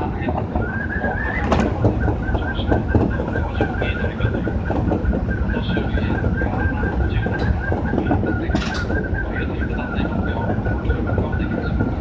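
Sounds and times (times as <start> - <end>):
subway train rumble: 0.0 - 12.0
train motor whine: 0.0 - 12.0.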